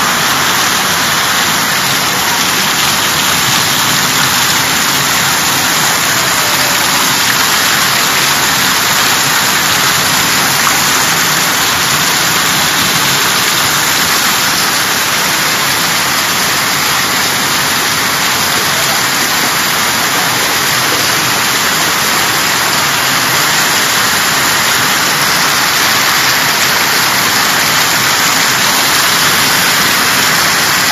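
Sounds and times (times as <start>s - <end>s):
heavy rain pouring in a storm: 0.0s - 30.9s.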